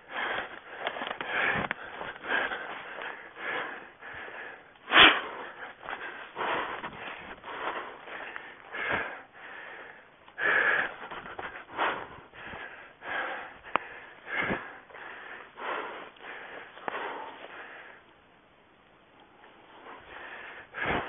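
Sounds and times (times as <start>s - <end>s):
hard rhythmic breathing: 0.0s - 21.0s.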